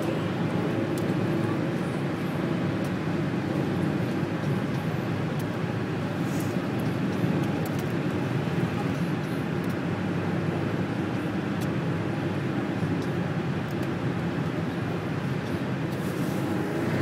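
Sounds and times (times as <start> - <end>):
road and engine drone in car: 0.0 - 17.0.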